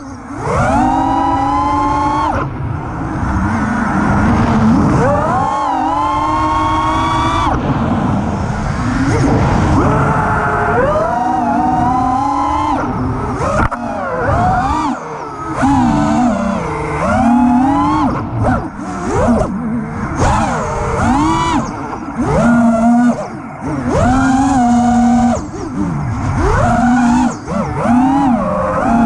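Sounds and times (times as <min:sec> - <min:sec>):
drone motors buzzing whine: 0:00.0 - 0:29.0.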